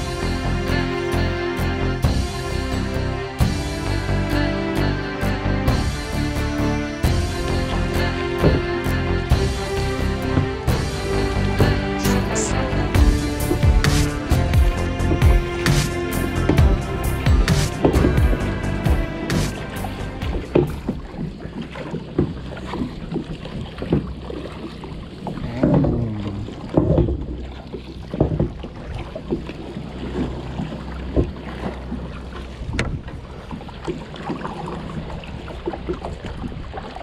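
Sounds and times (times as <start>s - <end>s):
paddle splashes: 0.0s - 37.0s.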